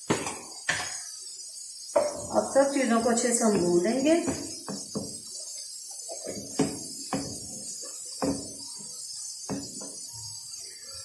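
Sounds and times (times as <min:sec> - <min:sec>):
food frying in oil in a wok: 0:00.0 - 0:11.0.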